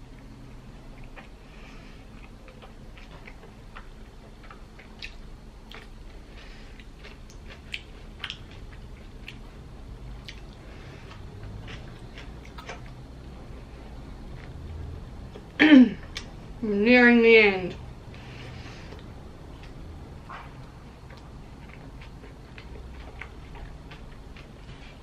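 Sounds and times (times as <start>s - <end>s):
person chewing food: 0.2s - 16.5s, 17.8s - 25.0s.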